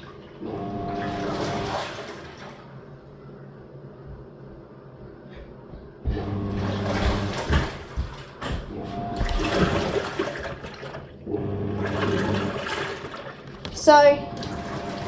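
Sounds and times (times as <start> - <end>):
washing machine water sloshing: 0.0 - 3.2, 6.0 - 15.0
washing machine motor humming: 0.0 - 15.0.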